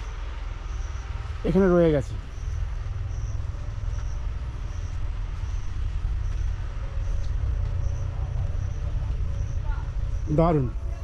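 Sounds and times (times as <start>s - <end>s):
faint insect chirp: 0.0s - 11.0s
wind buffeting microphone: 0.0s - 11.0s.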